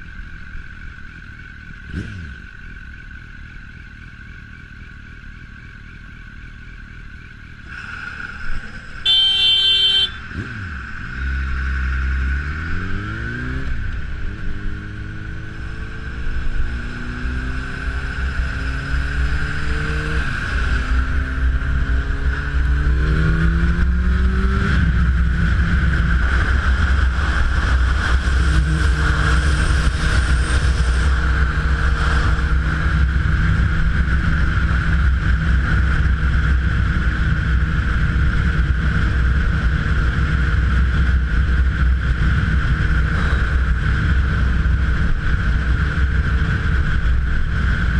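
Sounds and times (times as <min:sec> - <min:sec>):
road noise: 0:00.0 - 0:47.9.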